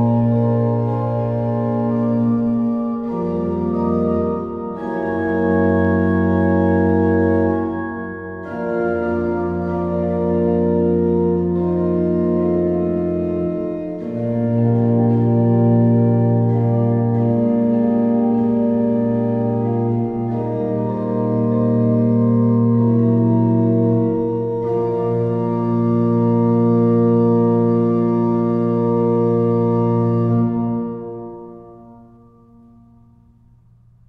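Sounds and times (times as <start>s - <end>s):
pipe organ chords: 0.0s - 33.6s.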